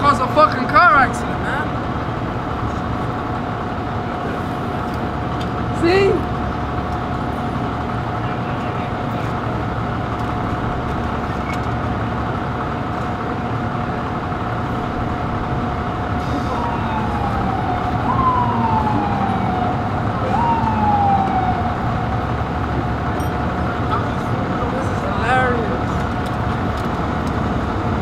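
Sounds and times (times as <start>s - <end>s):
emergency vehicle siren wailing: 0.0s - 28.0s
idling vehicles rumbling: 0.0s - 28.0s.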